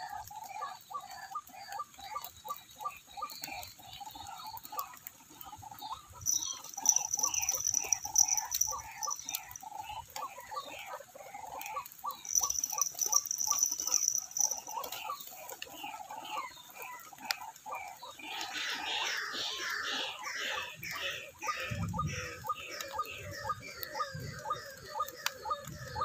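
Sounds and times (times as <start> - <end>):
waterhens calling: 0.0 - 26.0.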